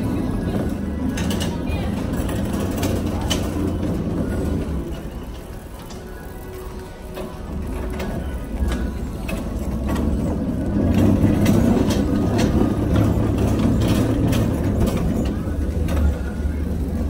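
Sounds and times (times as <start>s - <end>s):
cart clicks and rattles: 0.0s - 17.0s
shopping cart wheels rumbling: 0.0s - 17.0s.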